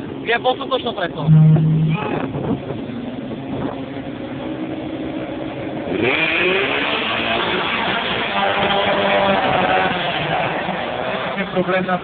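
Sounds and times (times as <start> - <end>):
rally car engines idling and revving: 0.0 - 12.0.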